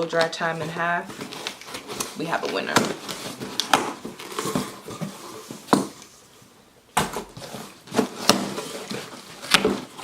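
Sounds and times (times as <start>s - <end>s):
packaging rustling: 0.0s - 6.1s, 7.1s - 10.0s.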